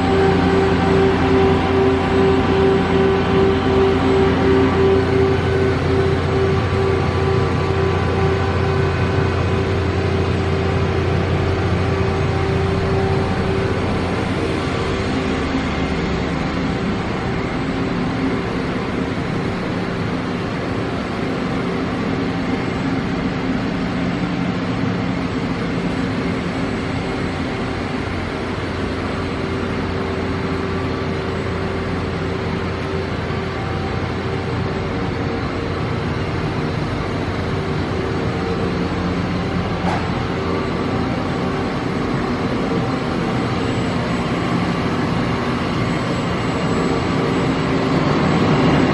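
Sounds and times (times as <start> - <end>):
machining center humming: 0.0 - 48.9.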